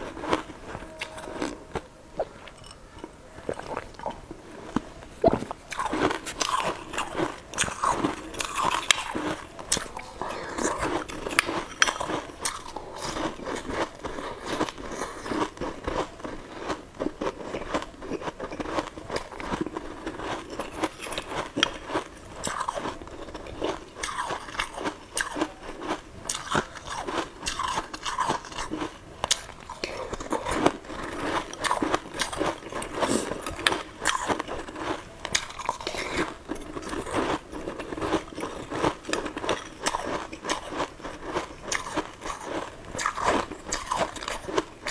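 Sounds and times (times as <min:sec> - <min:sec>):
person crunching and chewing food: 0:00.0 - 0:44.9.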